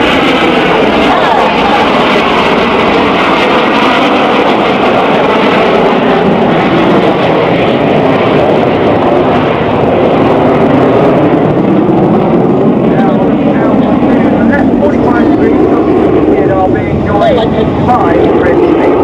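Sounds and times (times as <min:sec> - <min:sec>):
jet engines flying low: 0:00.0 - 0:19.0.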